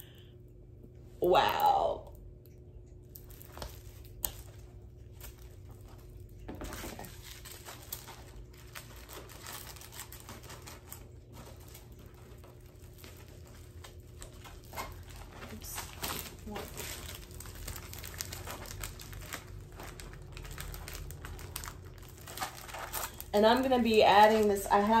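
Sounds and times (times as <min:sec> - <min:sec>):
packaging crinkling and rustling: 0:03.1 - 0:25.0.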